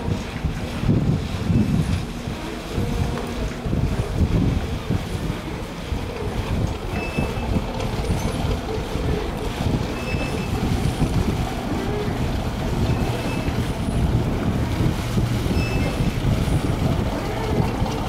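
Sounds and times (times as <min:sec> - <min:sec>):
ferry diesel engine rumbling: 0:00.0 - 0:18.0.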